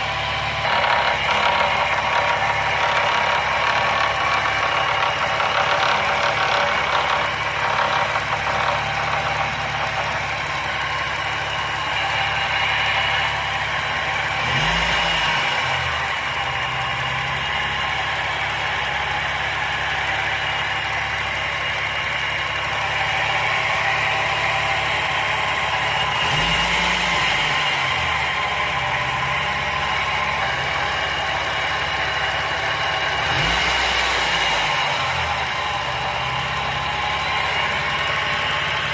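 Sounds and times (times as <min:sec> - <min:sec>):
car engine idling: 0:00.0 - 0:38.9
engine knocking: 0:00.0 - 0:38.9.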